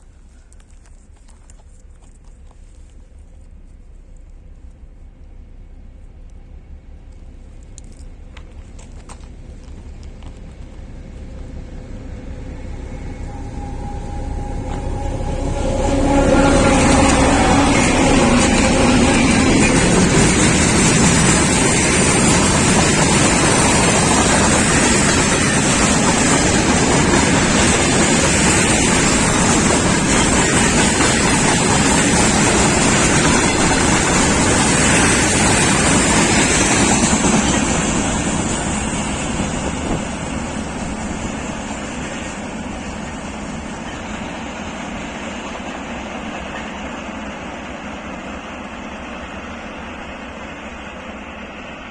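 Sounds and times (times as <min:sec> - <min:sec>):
freight train wheels on rails: 0:00.0 - 0:51.9.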